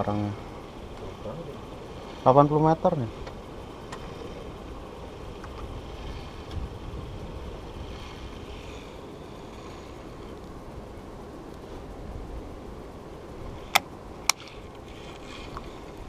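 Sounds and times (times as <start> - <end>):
sea noise: 0.0 - 16.0
wind rumble: 0.0 - 16.0.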